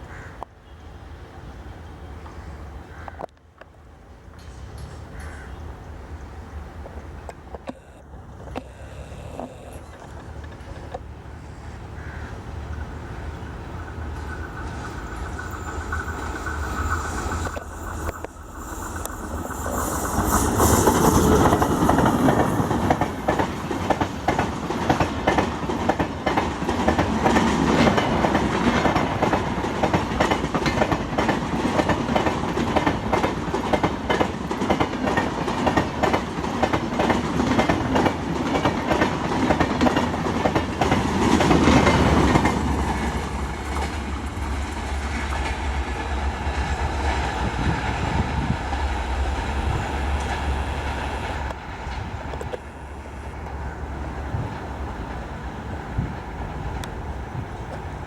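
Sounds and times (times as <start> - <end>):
train passing at speed: 0.0 - 58.0.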